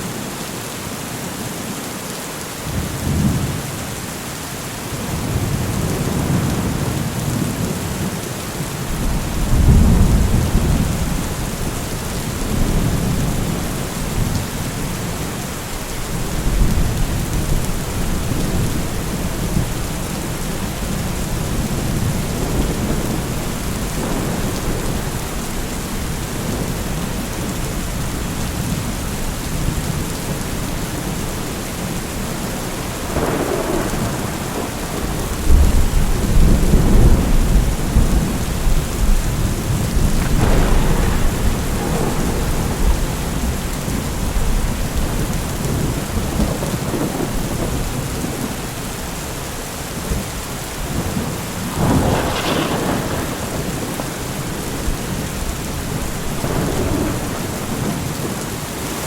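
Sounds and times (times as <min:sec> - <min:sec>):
heavy rain: 0:00.0 - 0:59.0
crackling thunderclap: 0:05.0 - 0:49.2, 0:49.9 - 0:59.0
rolling thunder: 0:08.8 - 0:48.8, 0:50.0 - 0:58.7.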